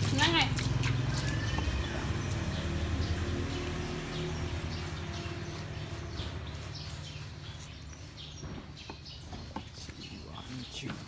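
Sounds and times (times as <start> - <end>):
wet rustling of lathered fur: 0.0 - 11.0.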